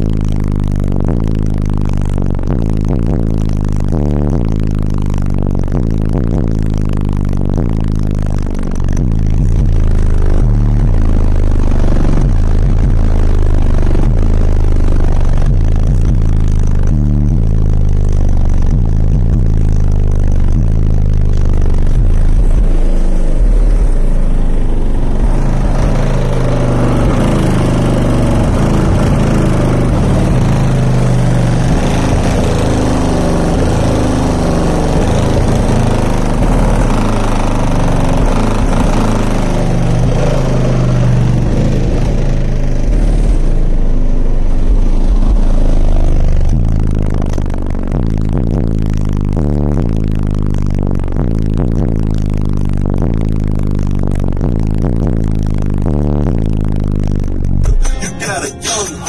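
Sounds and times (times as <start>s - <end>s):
bass-heavy music through subwoofer: 0.0s - 59.0s.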